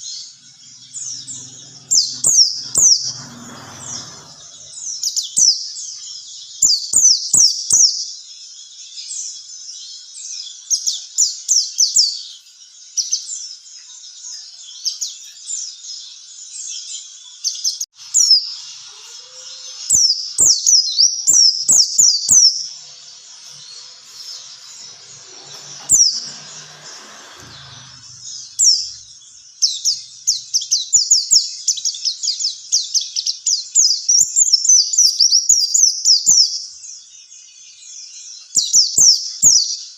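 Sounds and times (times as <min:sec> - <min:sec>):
bird high chirping song: 0:00.0 - 0:39.9.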